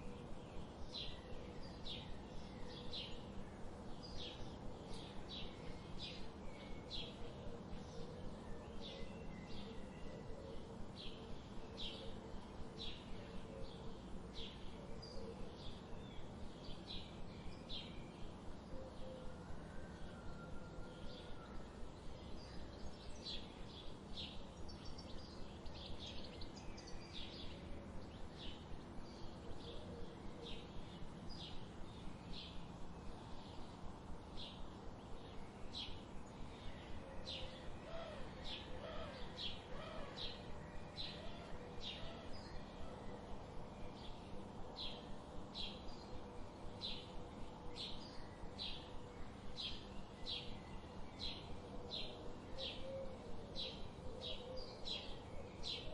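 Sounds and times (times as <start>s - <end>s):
faint background hiss: 0.0s - 55.9s.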